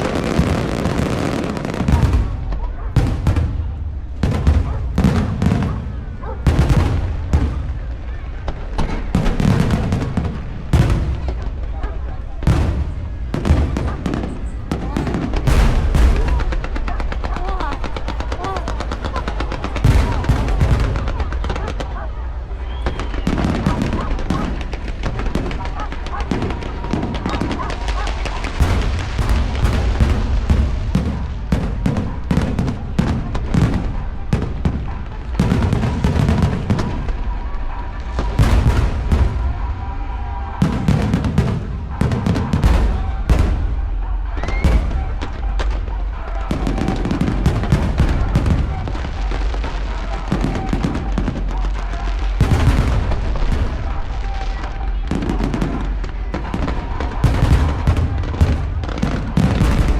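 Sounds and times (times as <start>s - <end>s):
deep firework booms: 0.0s - 59.9s
firework cracks and crackling: 0.0s - 59.9s.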